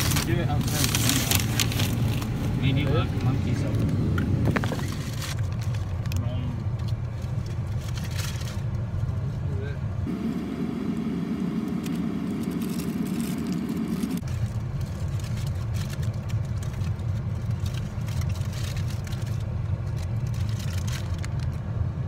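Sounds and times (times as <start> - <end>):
car rumbling on the move: 0.0 - 22.0.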